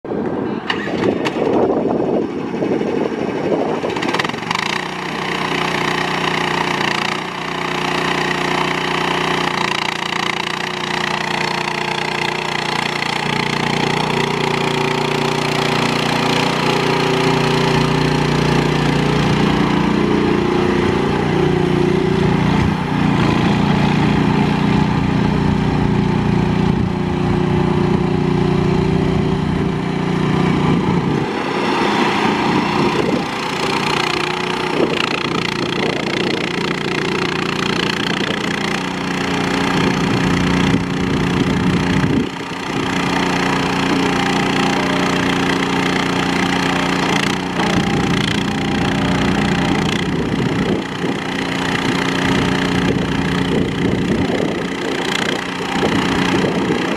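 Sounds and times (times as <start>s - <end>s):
mini skid steer engine running: 0.1s - 56.9s.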